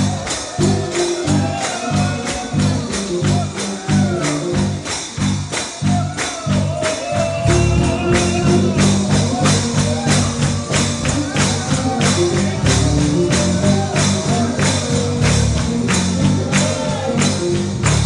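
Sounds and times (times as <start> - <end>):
person singing: 0.0 - 4.8, 5.7 - 18.0
bass line: 0.0 - 18.0
tambourine shaking: 0.0 - 18.0.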